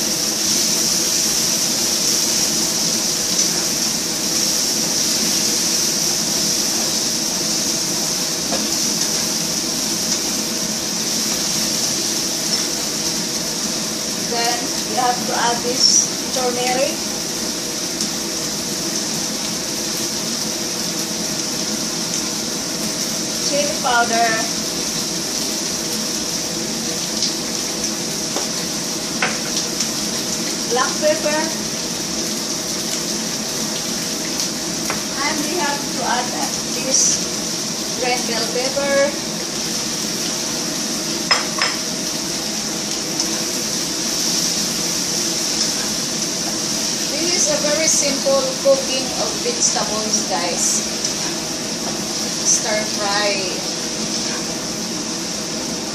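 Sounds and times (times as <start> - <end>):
vegetables sizzling in a pan: 0.0 - 55.9.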